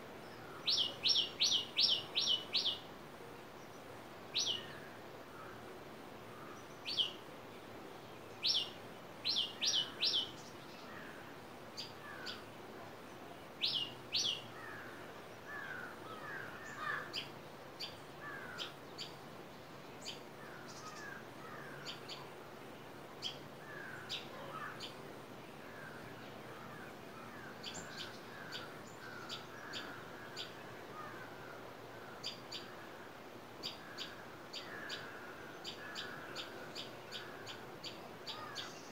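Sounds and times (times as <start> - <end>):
soft low slurred bird calls: 0.0 - 38.9.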